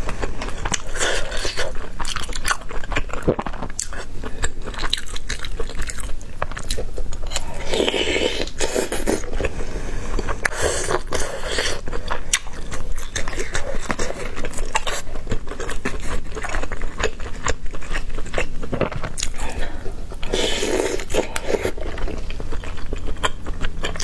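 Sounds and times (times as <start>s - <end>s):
person chewing and biting food: 0.1s - 24.0s.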